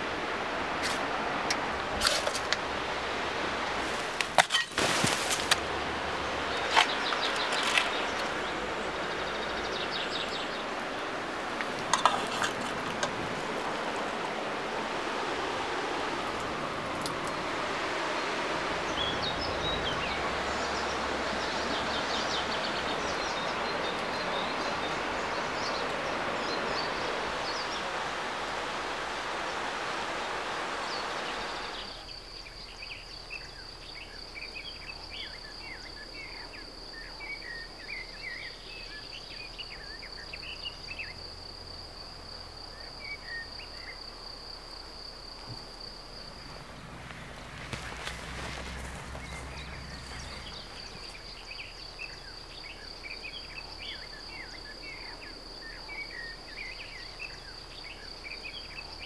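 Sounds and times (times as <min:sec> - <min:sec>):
river flowing: 0:00.0 - 0:59.0.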